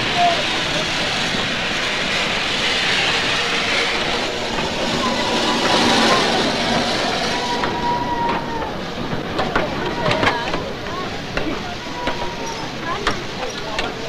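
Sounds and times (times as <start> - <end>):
train rumbling hiss: 0.0 - 14.0.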